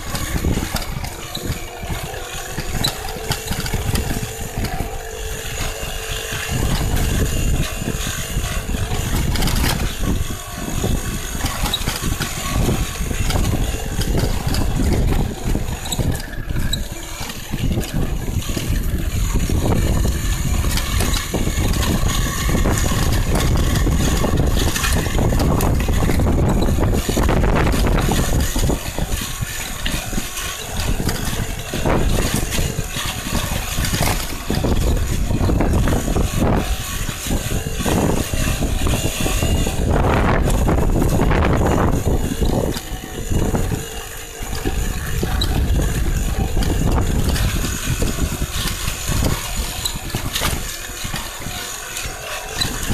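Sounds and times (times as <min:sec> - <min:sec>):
bike rattling over bumps: 0:00.0 - 0:52.9
wind and tyre rumble: 0:00.0 - 0:52.9.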